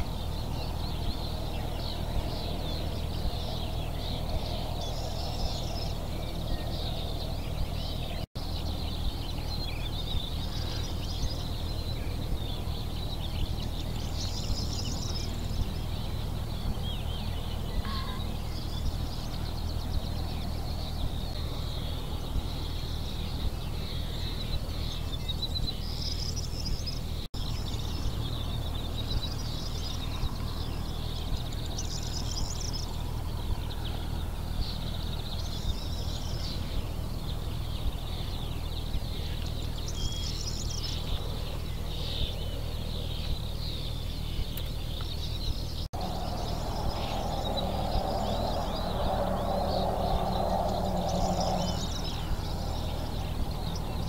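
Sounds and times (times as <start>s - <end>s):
low outdoor rumble: 0.0s - 54.0s
songbirds singing and chirping: 0.0s - 54.0s.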